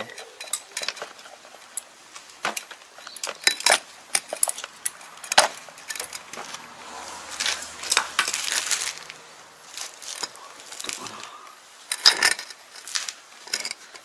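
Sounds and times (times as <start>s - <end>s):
scraping and rattling: 0.0s - 14.0s.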